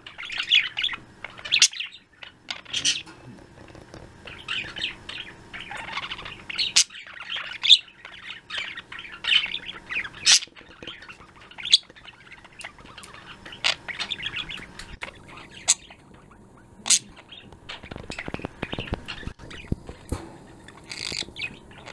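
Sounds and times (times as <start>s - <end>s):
budgerigars chirping and trilling: 0.0s - 21.9s.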